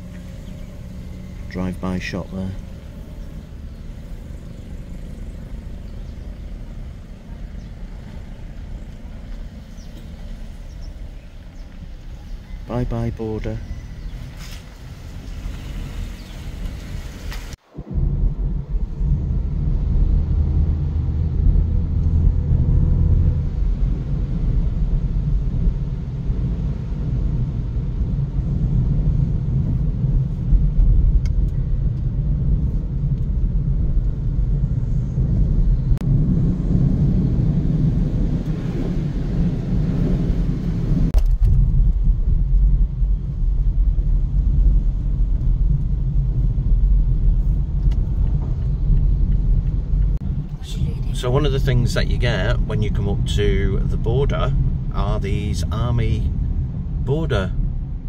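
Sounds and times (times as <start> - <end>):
car cabin engine and tyre rumble: 0.0 - 58.0.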